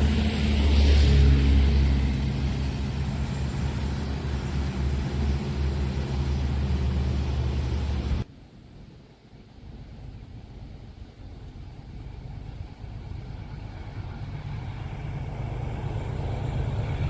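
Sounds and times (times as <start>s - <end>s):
train engine droning: 0.0s - 8.3s, 9.6s - 17.0s.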